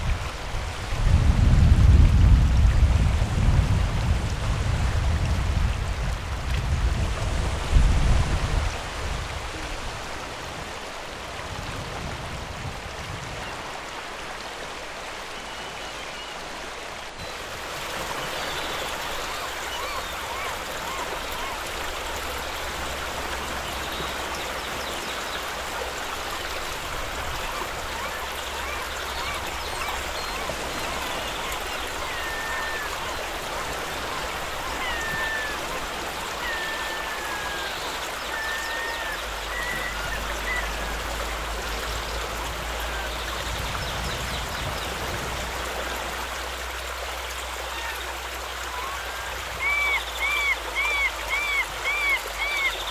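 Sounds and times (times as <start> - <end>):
flowing stream water: 0.0 - 52.9.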